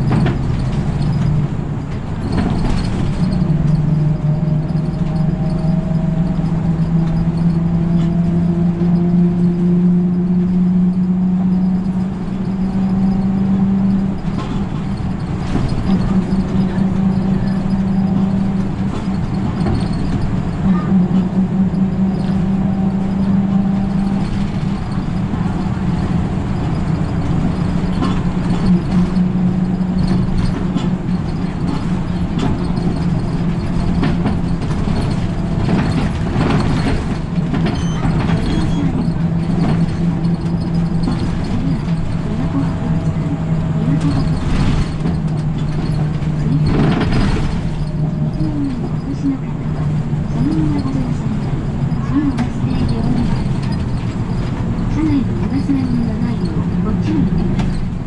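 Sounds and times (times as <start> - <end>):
bus engine drone: 0.0 - 58.0
tyre and road noise: 0.0 - 58.0.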